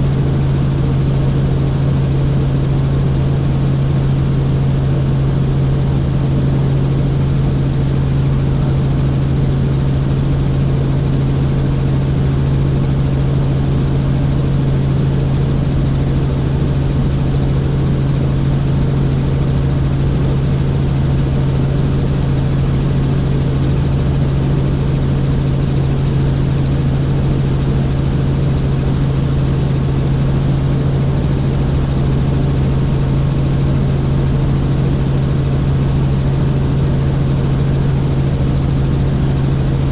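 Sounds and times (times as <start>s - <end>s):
helicopter droning in flight: 0.0s - 39.9s.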